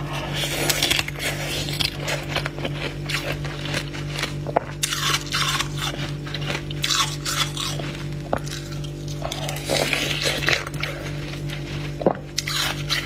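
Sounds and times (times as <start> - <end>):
steady low hum: 0.0 - 13.0
crunchy bites of frost: 0.2 - 13.0.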